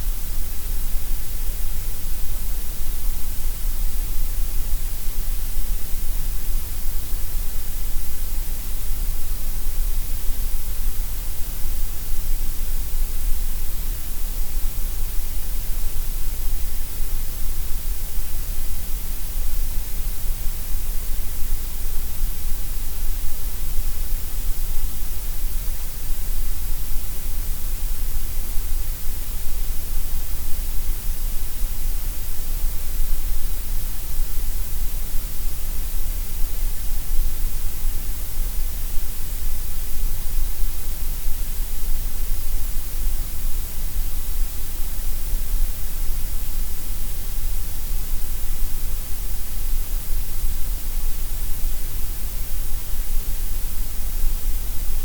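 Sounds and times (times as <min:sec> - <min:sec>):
steady gray noise hiss: 0:00.0 - 0:55.0.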